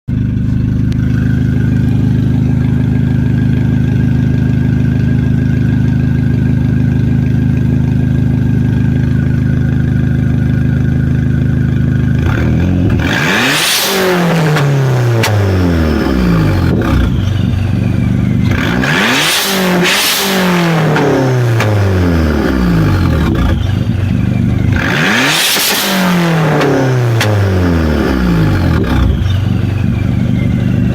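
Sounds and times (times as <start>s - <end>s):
car engine idling and revving: 0.1s - 30.9s
high turbo whine: 0.1s - 30.9s.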